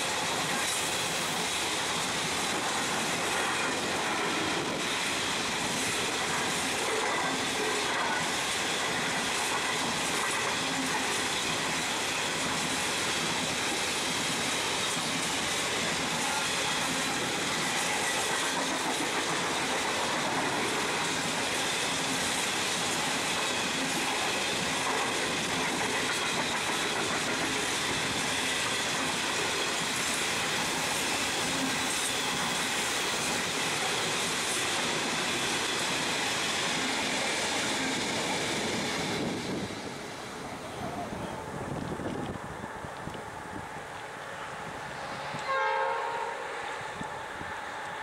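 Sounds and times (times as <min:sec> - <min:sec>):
train wheels clattering on rails: 0:00.0 - 0:41.1.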